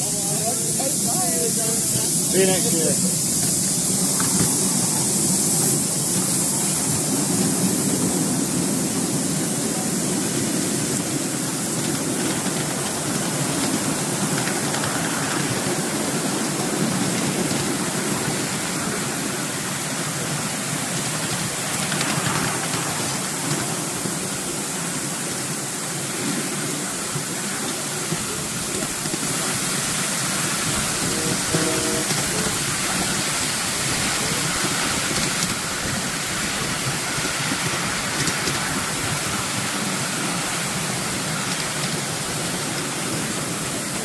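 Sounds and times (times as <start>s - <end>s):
steam hiss: 0.0s - 44.0s
train wheels rushing on rails: 0.0s - 44.0s.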